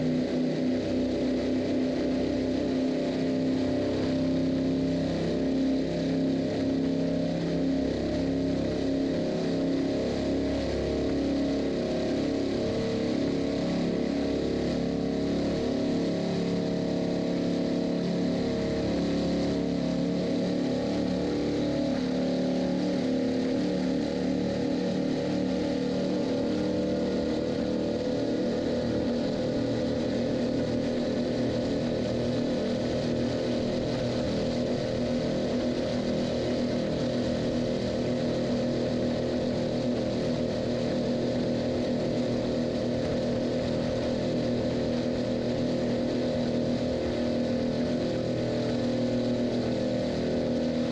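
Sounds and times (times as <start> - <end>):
motorboat engine running: 0.0 - 50.9.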